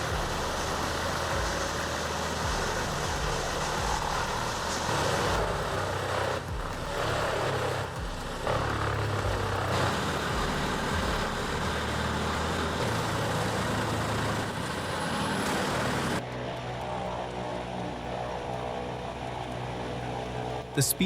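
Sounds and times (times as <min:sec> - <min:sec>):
wood chipper engine drone: 0:00.0 - 0:21.0.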